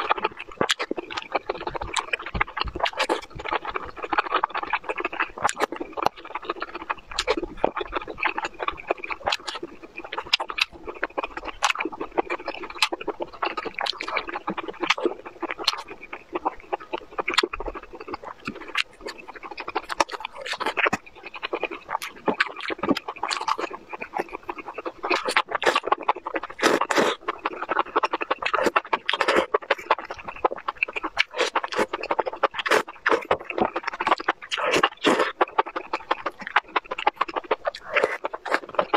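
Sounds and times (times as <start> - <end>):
wet chewing and slurping: 0.0 - 38.9.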